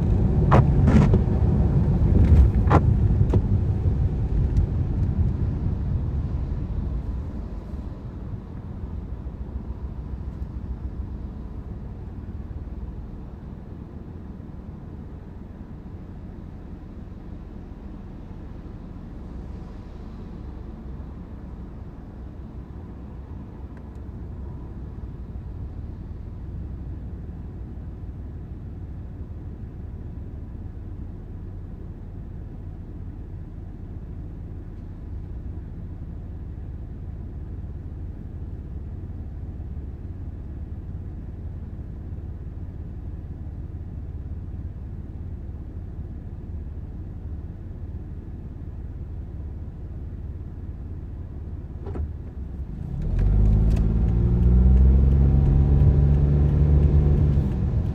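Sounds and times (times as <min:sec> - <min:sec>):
car driving rumble: 0:00.0 - 0:57.9.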